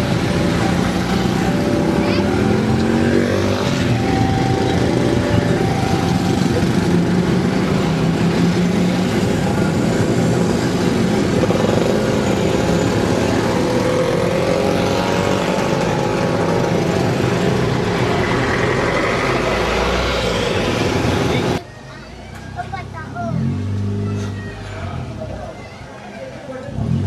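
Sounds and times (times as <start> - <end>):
buses: 0.0 - 27.0
motorcycles and scooters running: 0.0 - 27.0.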